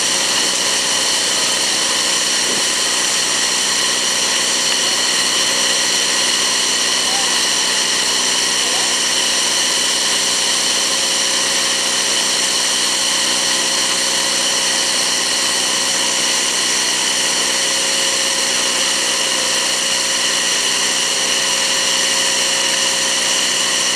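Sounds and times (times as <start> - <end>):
blower high whine: 0.0 - 23.9.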